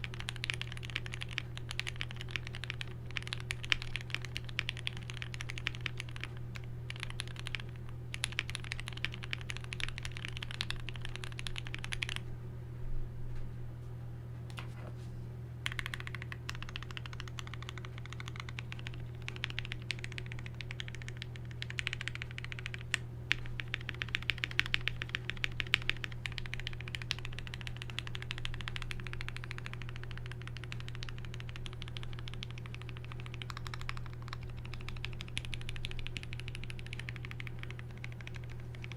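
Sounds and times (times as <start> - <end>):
mechanical keyboard typing: 0.0 - 12.2, 15.6 - 38.9.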